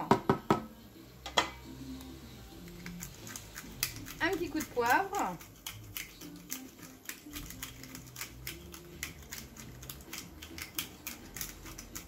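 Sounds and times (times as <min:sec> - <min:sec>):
pepper mill grinding: 0:01.9 - 0:12.0.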